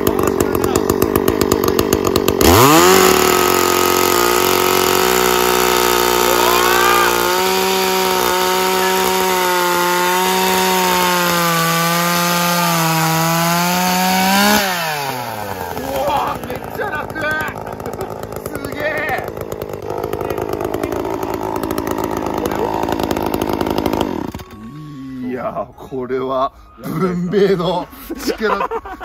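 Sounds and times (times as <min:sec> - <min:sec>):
chainsaw cutting log: 0:00.0 - 0:25.0.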